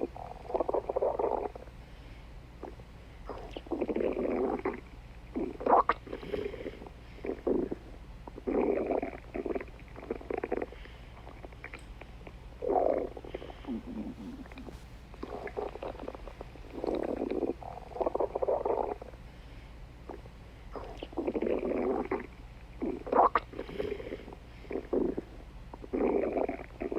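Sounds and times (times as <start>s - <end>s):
stomach growling: 0.0s - 1.7s, 2.6s - 19.2s, 20.1s - 26.9s.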